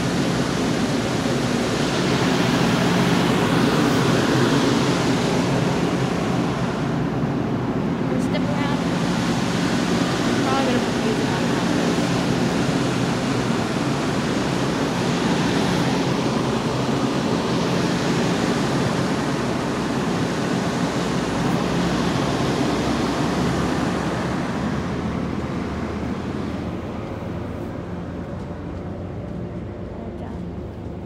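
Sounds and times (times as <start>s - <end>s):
train rolling past: 0.0s - 31.0s.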